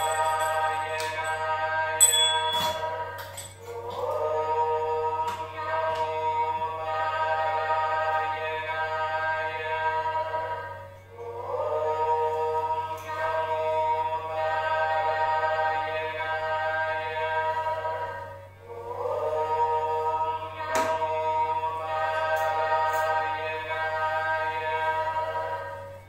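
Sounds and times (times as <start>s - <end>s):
devotional chant singing: 0.0s - 26.0s.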